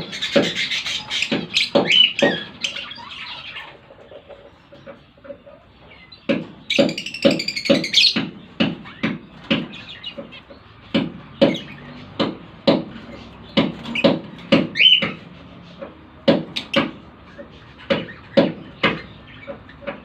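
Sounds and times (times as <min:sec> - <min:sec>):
sharp irregular knocks: 0:00.0 - 0:02.8, 0:06.2 - 0:20.0
lovebirds chirping: 0:00.0 - 0:20.0.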